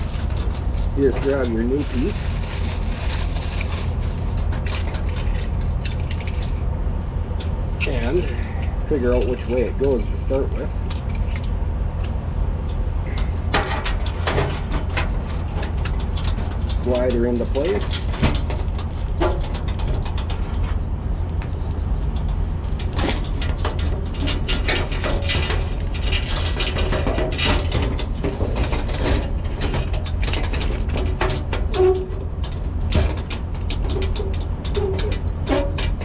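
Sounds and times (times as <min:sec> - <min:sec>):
metal clicking and scraping: 0:00.0 - 0:06.6, 0:07.4 - 0:36.0
steady low rumble: 0:00.0 - 0:36.0.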